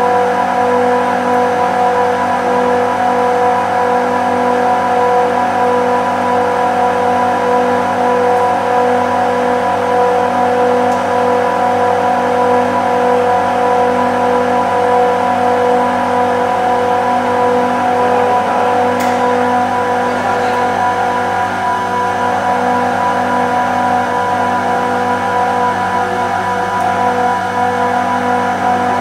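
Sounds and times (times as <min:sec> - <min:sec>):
compressors humming with whine: 0:00.0 - 0:29.0.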